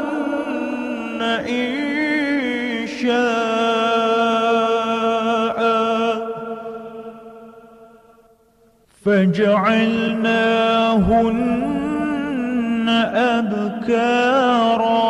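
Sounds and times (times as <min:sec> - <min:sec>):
man chanting: 0:00.0 - 0:07.4, 0:09.0 - 0:15.0.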